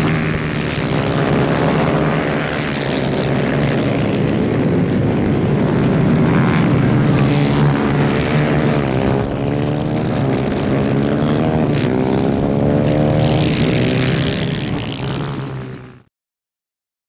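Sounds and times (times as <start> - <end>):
kart engines revving: 0.0 - 16.0.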